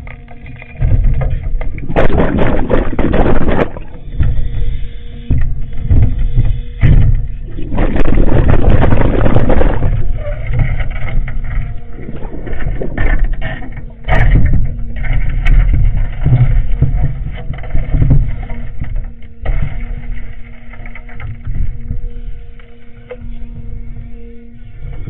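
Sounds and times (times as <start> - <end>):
excavator engine rumble: 0.0 - 25.0
water churning and sloshing: 0.0 - 25.0.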